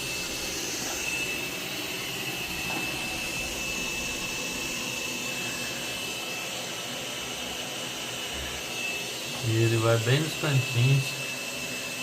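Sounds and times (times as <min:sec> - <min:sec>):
robot vacuum motor and fan hiss: 0:00.0 - 0:12.0
thin high whine: 0:00.0 - 0:12.0.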